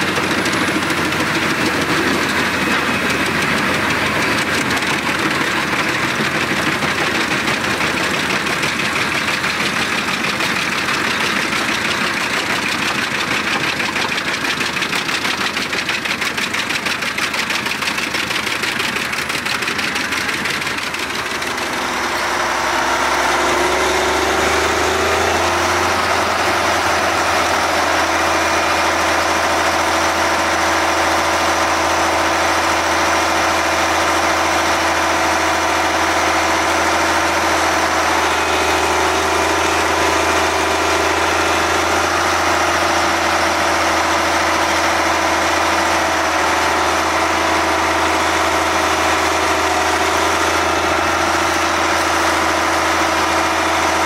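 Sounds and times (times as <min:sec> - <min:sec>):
wood chipper running: 0:00.0 - 0:54.0.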